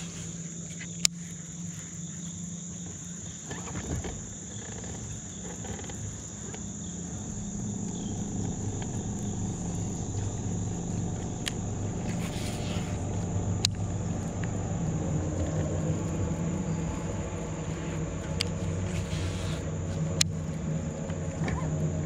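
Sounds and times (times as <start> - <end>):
insects buzzing: 0.0 - 22.0
low electric motor hum: 0.0 - 22.0.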